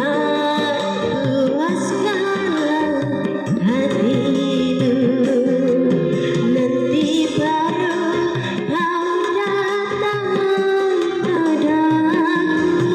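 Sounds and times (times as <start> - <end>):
instrumental backing music: 0.0 - 12.9
woman singing: 0.0 - 12.9.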